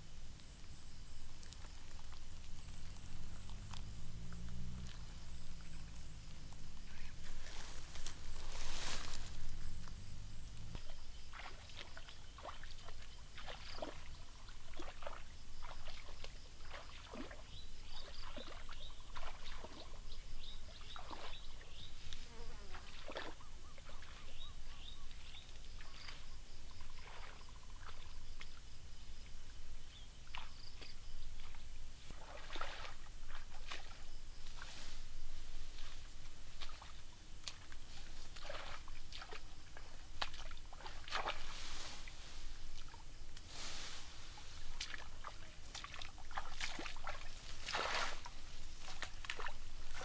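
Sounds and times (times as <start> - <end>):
rustling through tall grass: 0.0 - 28.7, 29.7 - 50.0
insects chirping: 0.0 - 50.0.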